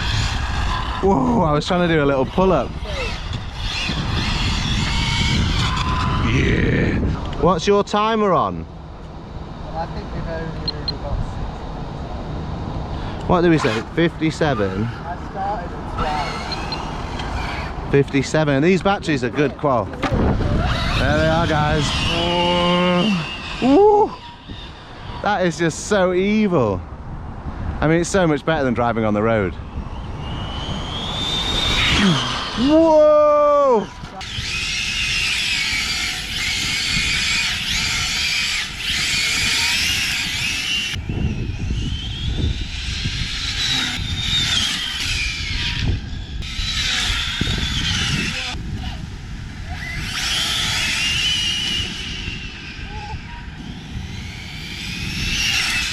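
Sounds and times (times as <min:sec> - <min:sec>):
electric motor whining: 0:00.0 - 0:07.4, 0:13.2 - 0:25.7, 0:29.6 - 0:55.9.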